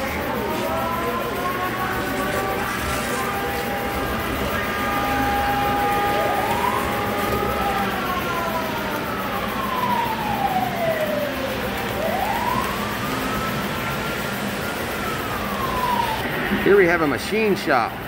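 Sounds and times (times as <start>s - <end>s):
wailing siren: 0.0s - 18.0s.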